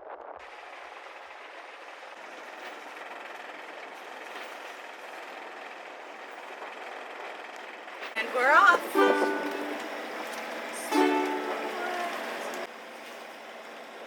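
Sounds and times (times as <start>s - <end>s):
wind: 0.4s - 14.0s.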